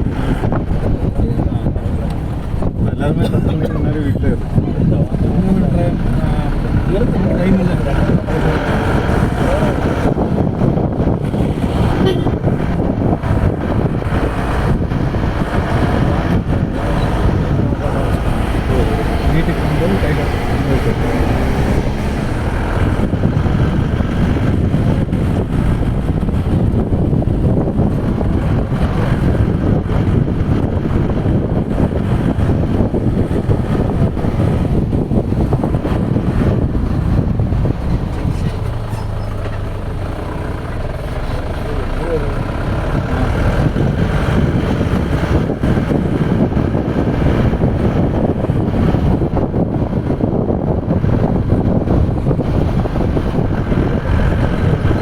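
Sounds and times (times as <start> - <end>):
vehicle driving on road: 0.0 - 55.0
wind rumble on microphone: 0.0 - 55.0.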